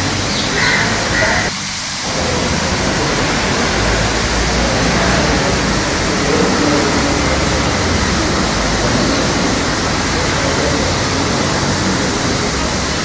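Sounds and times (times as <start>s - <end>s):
outdoor rushing noise: 0.0s - 13.0s
heavy low rumble: 0.9s - 13.0s.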